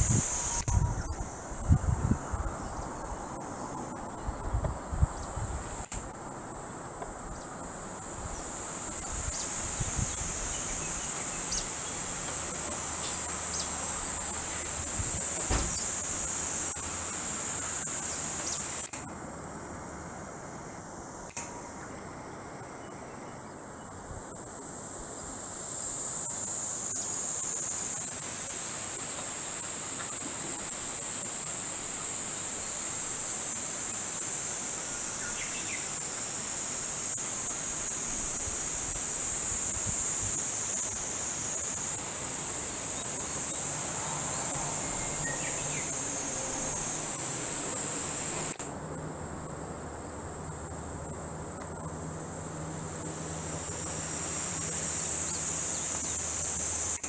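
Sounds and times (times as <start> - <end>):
cicadas chorus: 0.0 - 57.0.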